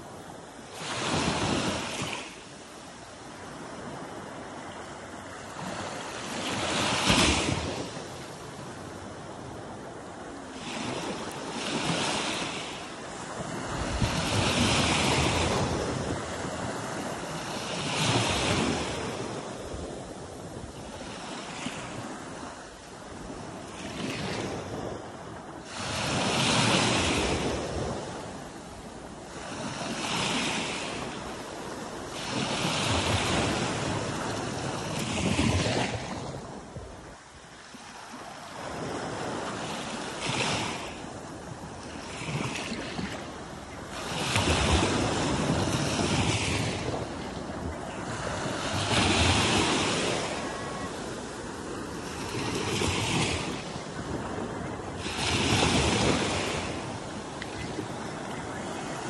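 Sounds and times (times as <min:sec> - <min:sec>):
small waves washing ashore: 0:00.0 - 0:59.0.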